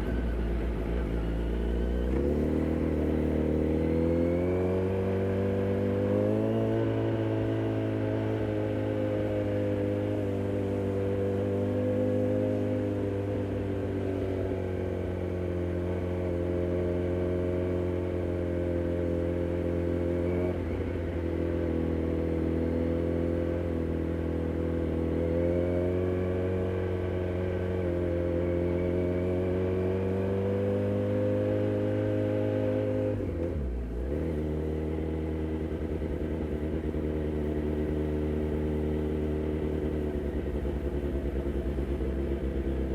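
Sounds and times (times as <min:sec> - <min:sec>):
motorcycle engine running: 0:00.0 - 0:25.6, 0:26.4 - 0:42.9.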